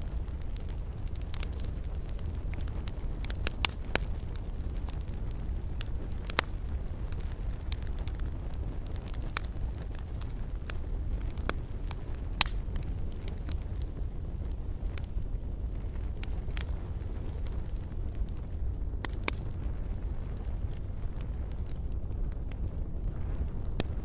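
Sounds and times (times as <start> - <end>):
fire rumbling and crackling: 0.0 - 24.0.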